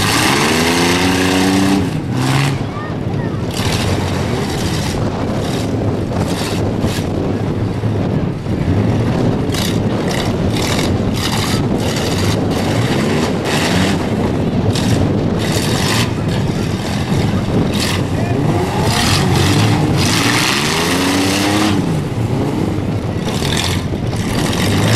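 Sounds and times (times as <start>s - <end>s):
van engines revving: 0.0s - 24.9s.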